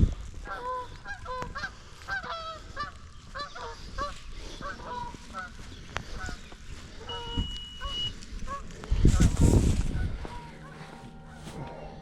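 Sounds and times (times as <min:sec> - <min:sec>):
geese honking: 0:00.4 - 0:12.0.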